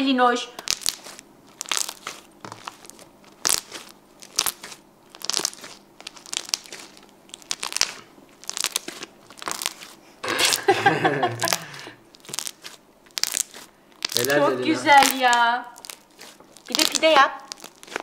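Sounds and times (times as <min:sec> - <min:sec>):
slime crackling and squelching: 0:00.6 - 0:18.0.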